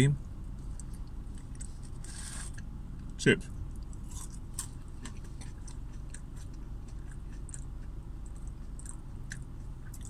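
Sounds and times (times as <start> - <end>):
low steady hum: 0.0 - 10.0
person chewing: 0.6 - 10.0.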